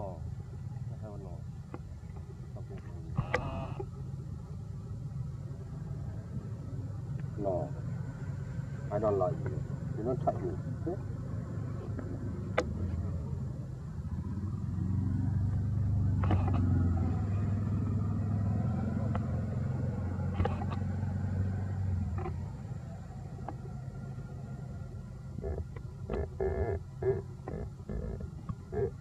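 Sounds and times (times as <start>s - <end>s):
vehicle engine rumble passing: 0.0s - 29.0s.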